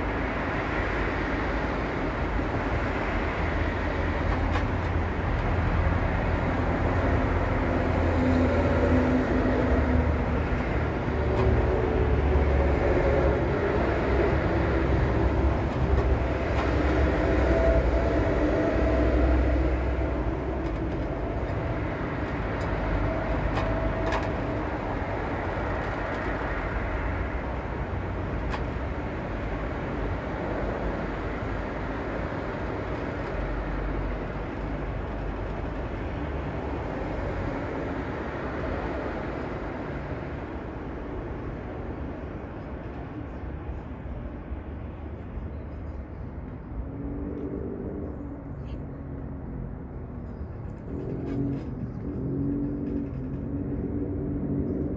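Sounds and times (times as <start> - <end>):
motor vehicles rumbling: 0.0 - 54.9.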